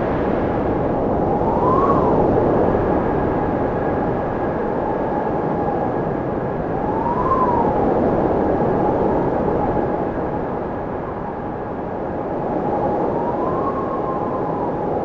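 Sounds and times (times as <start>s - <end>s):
wind and propeller noise: 0.0s - 15.0s.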